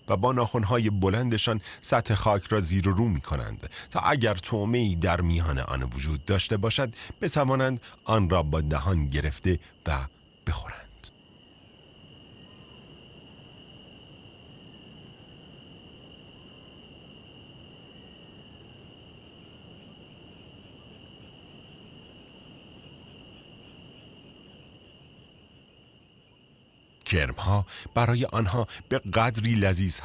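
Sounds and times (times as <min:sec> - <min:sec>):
cricket trilling: 0:00.0 - 0:30.0
faint low hiss: 0:00.0 - 0:30.0
insect chirping: 0:00.0 - 0:30.0.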